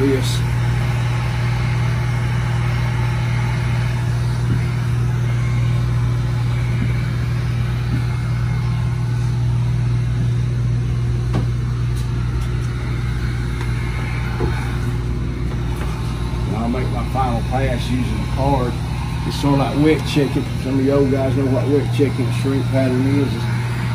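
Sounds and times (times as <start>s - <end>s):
heat gun blowing air: 0.0s - 23.9s.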